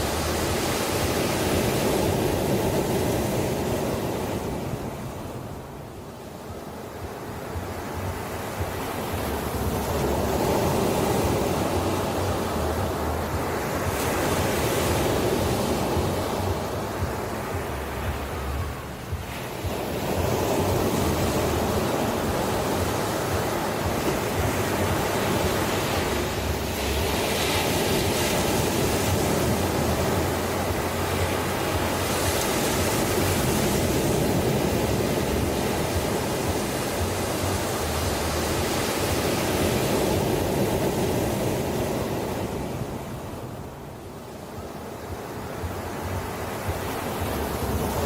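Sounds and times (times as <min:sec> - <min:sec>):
ocean waves breaking: 0:00.0 - 0:48.0.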